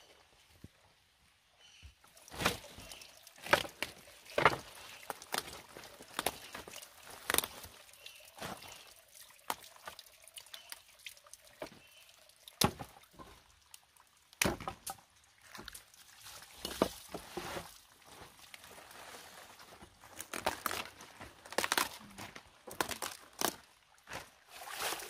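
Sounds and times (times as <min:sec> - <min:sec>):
water trickling into plastic basin: 0:02.0 - 0:25.0.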